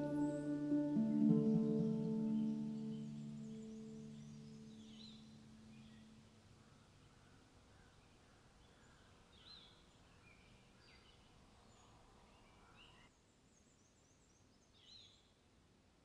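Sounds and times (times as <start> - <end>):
faint birds chirping: 0.0 - 15.5
quiet outdoor ambience: 0.0 - 16.0.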